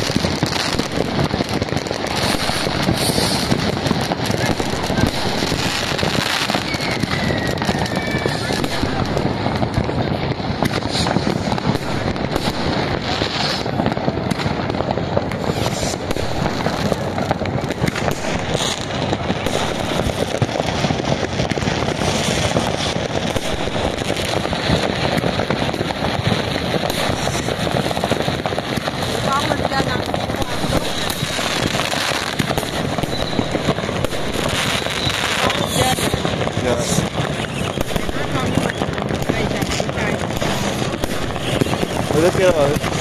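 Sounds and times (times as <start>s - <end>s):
fireworks barrage: 0.0s - 43.0s.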